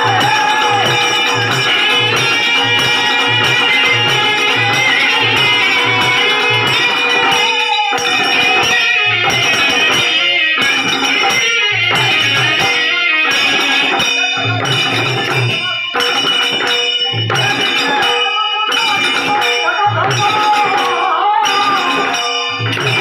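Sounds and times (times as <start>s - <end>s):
drum strokes: 0.0s - 23.0s
jingling metal percussion: 0.0s - 23.0s.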